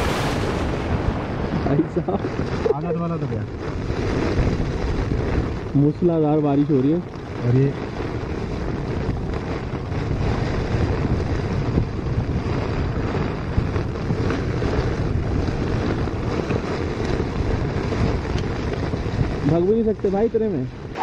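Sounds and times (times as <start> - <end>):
gusting wind: 0.0 - 21.0
tent fabric flapping: 0.0 - 21.0
torrential rain on tent: 0.0 - 21.0.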